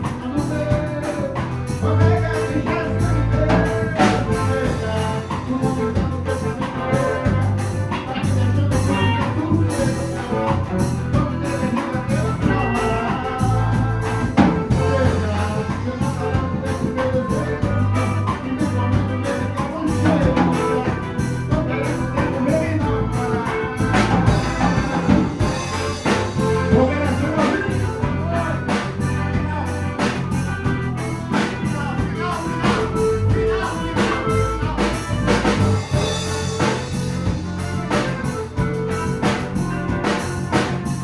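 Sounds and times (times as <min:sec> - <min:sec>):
drum kit beat: 0:00.0 - 0:41.0
live band playing: 0:00.0 - 0:41.0.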